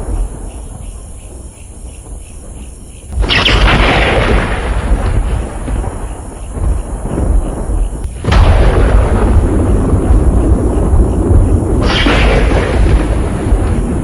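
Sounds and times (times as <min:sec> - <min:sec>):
sharp thunderclap: 0:00.0 - 0:01.1, 0:02.0 - 0:14.0
thunder rumbling: 0:00.0 - 0:14.0.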